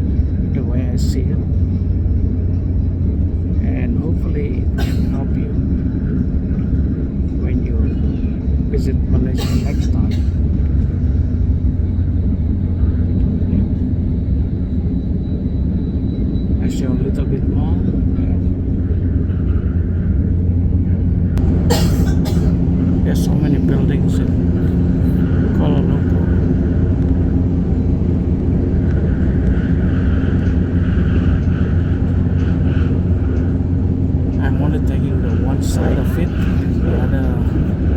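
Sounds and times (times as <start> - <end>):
faint high whine: 0.0 - 20.3, 21.4 - 37.9
train rumbling at speed: 0.0 - 37.9.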